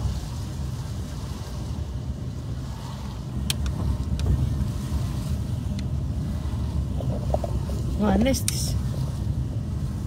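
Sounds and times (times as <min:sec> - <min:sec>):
engine and tyre rumble: 0:00.0 - 0:10.0.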